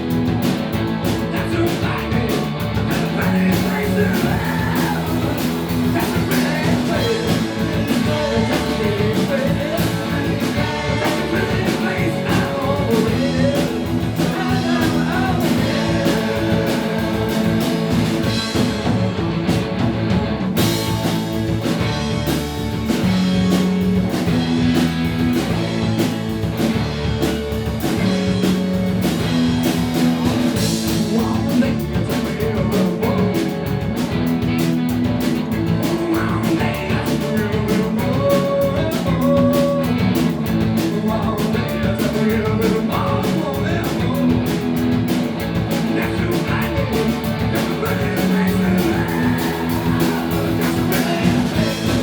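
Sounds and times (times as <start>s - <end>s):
rock band playing: 0.0s - 52.0s.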